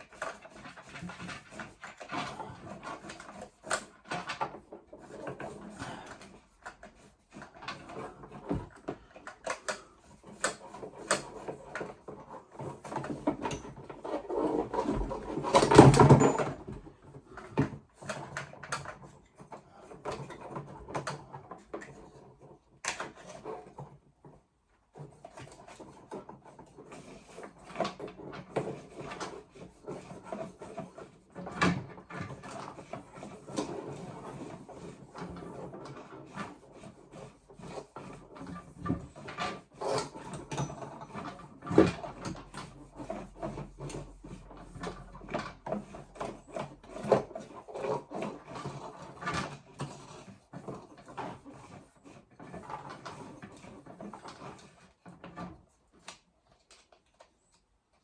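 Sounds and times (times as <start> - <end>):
tools knocking and rubbing: 0.0 - 56.1.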